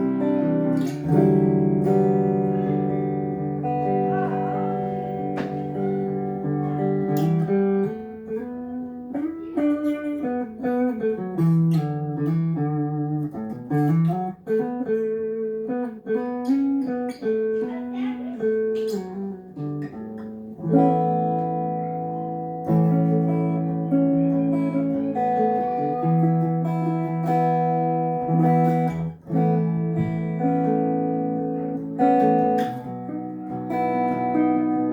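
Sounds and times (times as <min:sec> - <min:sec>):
electric guitar melodic runs: 0:00.0 - 0:34.9
electric guitar strummed chords: 0:00.0 - 0:34.9.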